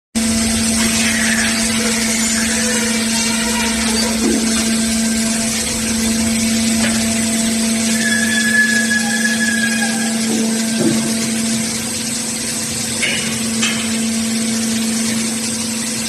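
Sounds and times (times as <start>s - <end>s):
drill rig machine hum: 0.2s - 16.0s.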